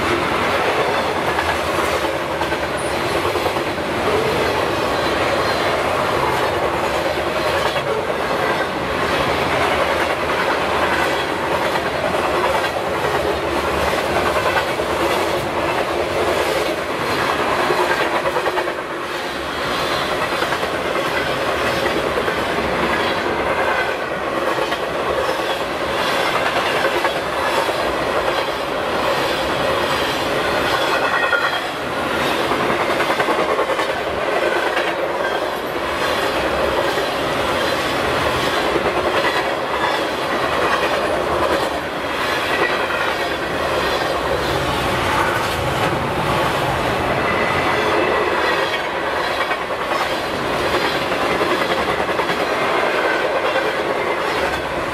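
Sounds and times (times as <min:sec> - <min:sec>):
freight train wheels clicking on rails: 0:00.0 - 0:54.9.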